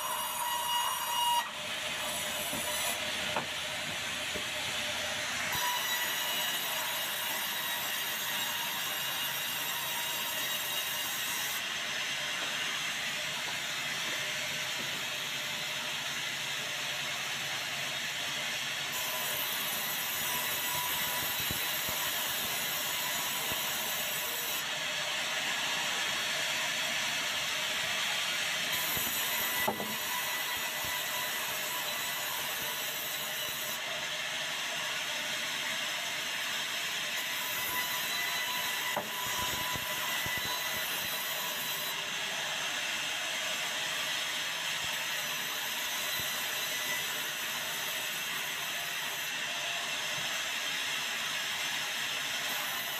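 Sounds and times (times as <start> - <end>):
saw whirring and hissing: 0.0 - 52.9.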